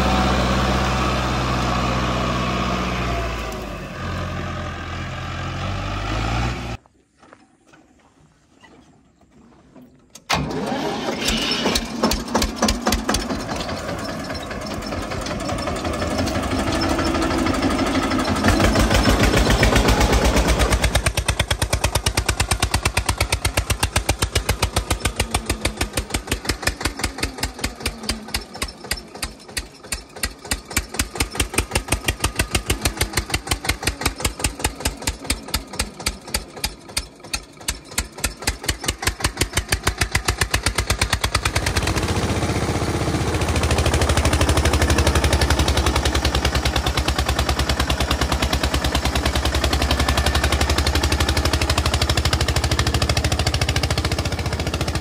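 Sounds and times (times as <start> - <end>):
tractor diesel engine chugging: 0.0 - 6.5, 10.3 - 55.0.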